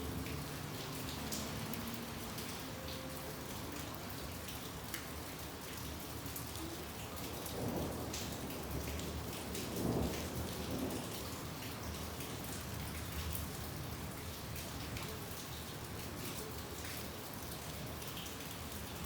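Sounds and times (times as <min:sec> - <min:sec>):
raindrops ticking: 0:00.0 - 0:15.6
steady rain falling: 0:00.0 - 0:19.0.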